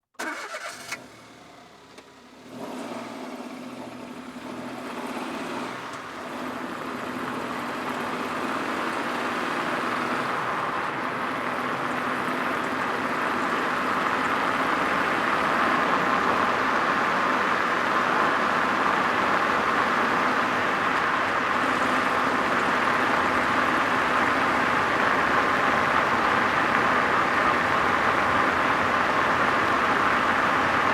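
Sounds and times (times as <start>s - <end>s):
car engine starting and running: 0.1s - 30.9s.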